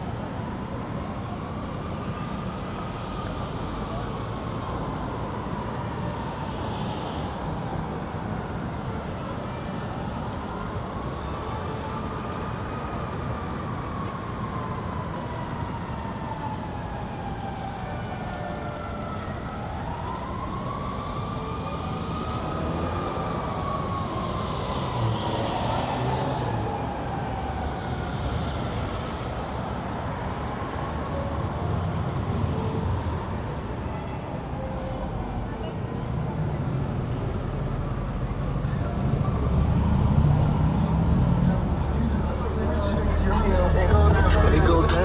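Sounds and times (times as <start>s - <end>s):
city traffic noise: 0.0s - 45.0s
emergency siren wailing: 0.0s - 45.0s.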